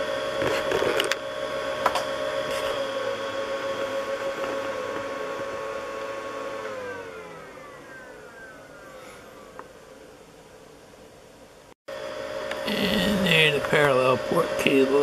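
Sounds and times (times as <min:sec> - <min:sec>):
cooling fan whining: 0:00.0 - 0:15.0.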